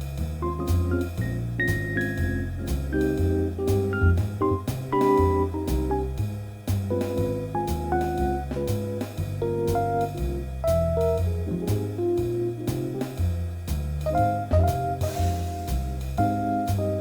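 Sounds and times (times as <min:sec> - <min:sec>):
drums with steady beat: 0:00.0 - 0:17.0.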